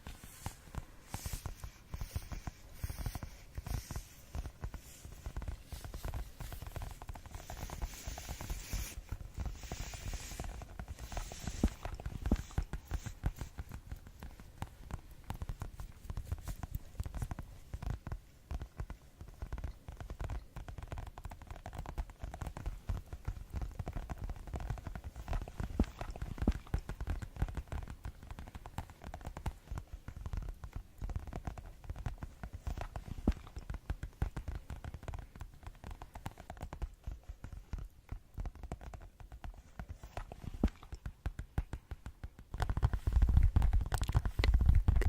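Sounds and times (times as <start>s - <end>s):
fast asmr tapping: 0.0s - 45.0s.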